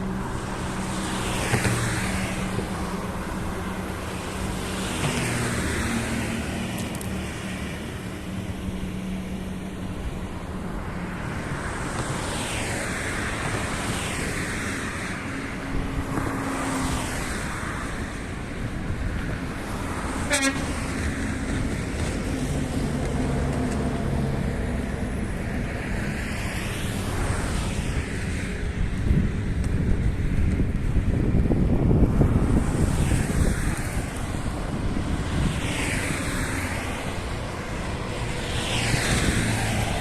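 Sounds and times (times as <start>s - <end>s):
cars and trucks passing: 0.0s - 40.0s
steady low traffic rumble: 0.0s - 40.0s.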